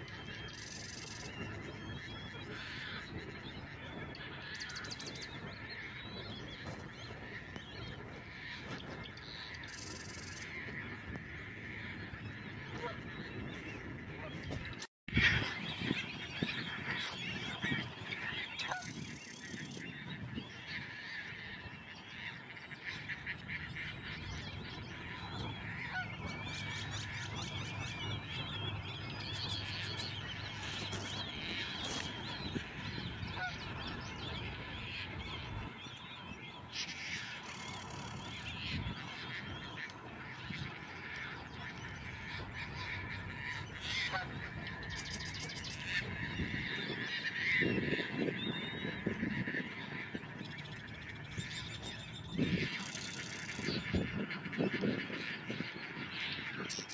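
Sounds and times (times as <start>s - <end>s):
chorus of birds calling: 0.0s - 56.9s.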